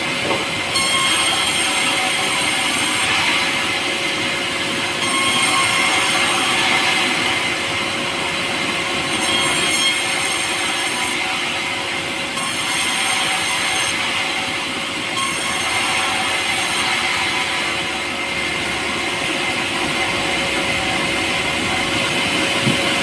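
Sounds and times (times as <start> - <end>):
power saw cutting wood: 0.0 - 23.0.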